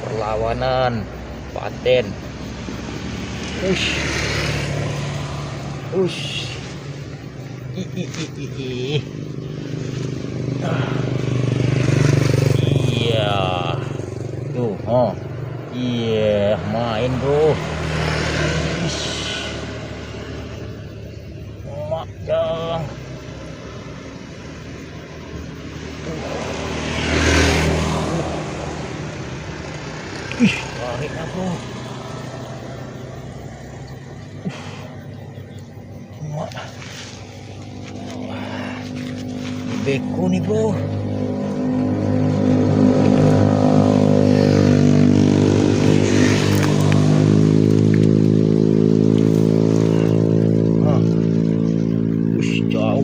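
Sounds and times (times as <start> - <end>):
engine passing by: 0.0 - 53.0.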